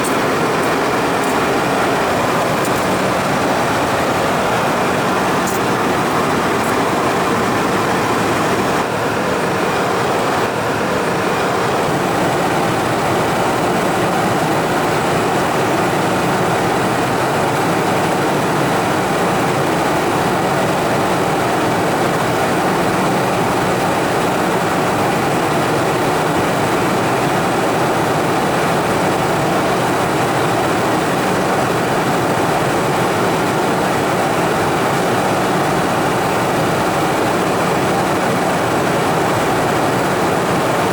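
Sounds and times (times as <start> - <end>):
jet engine and airflow rush: 0.0 - 40.9.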